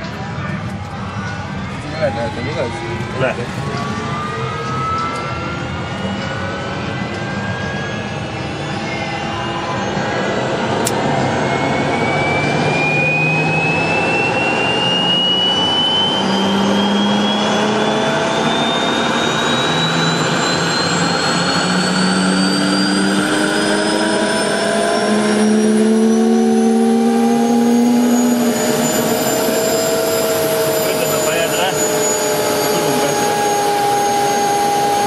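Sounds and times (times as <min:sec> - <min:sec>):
helicopter turbine spooling up: 0:00.0 - 0:35.0.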